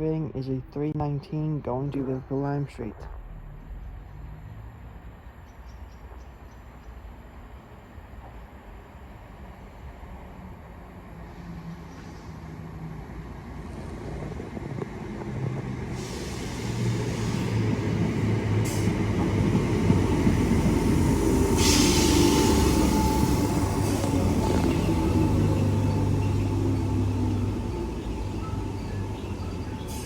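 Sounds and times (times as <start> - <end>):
electric train pulling in: 3.3 - 30.0.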